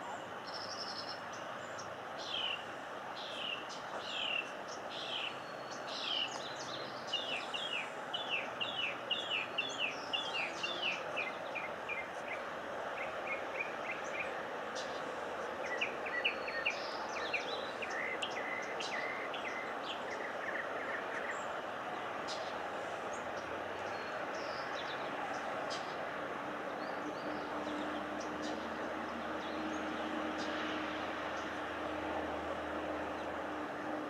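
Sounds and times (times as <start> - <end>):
birds singing and calling: 0.0 - 31.6
steady background hiss: 0.0 - 34.0.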